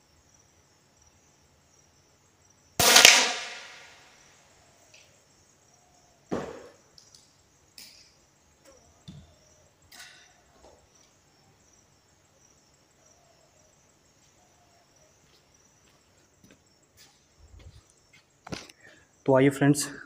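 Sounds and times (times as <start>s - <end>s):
insects chirping faintly: 0.0s - 20.0s.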